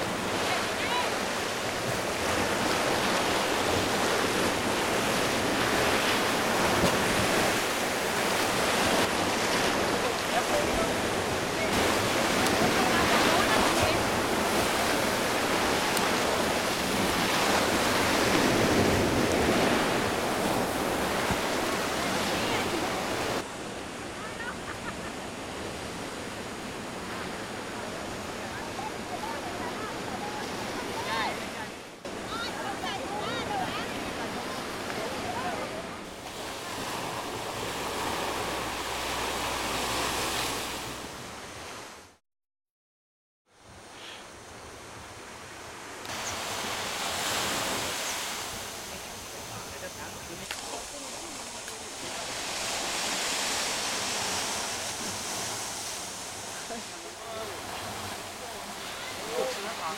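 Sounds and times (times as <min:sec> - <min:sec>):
waves surging on boulders: 0:00.0 - 0:42.2, 0:44.7 - 0:59.9.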